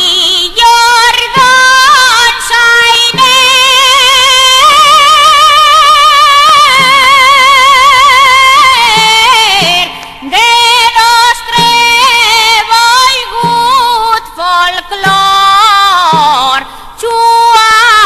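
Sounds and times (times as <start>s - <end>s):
high singing voice with vibrato: 0.0s - 18.0s.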